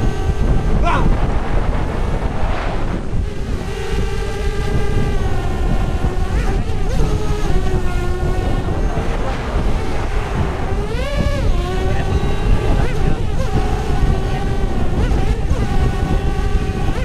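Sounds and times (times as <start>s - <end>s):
low rumble: 0.0s - 16.7s
electric propeller motor whine: 0.0s - 17.0s.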